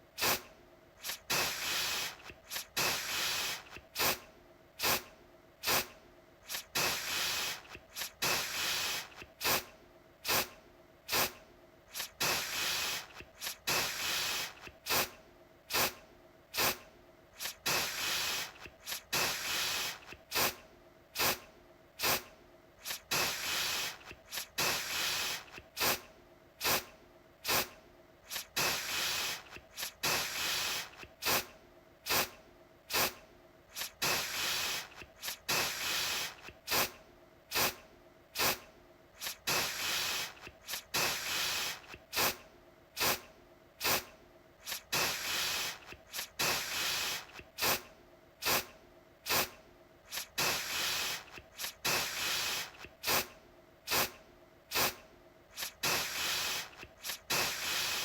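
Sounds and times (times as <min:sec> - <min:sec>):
aerosol can spraying: 0:00.2 - 0:04.2, 0:04.8 - 0:16.0, 0:16.6 - 0:16.8, 0:17.4 - 0:20.6, 0:21.2 - 0:21.4, 0:22.0 - 0:26.0, 0:26.6 - 0:31.5, 0:32.1 - 0:37.8, 0:38.4 - 0:38.6, 0:39.2 - 0:42.4, 0:43.0 - 0:48.7, 0:49.3 - 0:53.3, 0:53.9 - 0:58.0.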